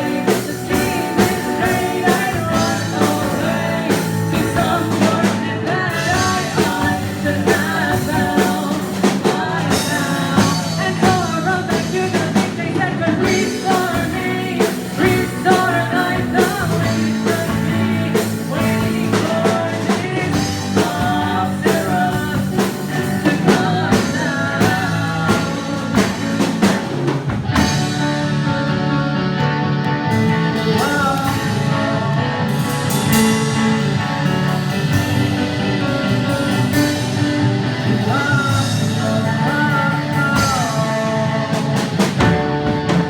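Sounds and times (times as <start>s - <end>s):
drum kit beat: 0.0s - 28.5s, 30.1s - 43.0s
electric guitars: 0.0s - 43.0s
lead vocal singing: 0.0s - 43.0s
piano: 0.0s - 43.0s.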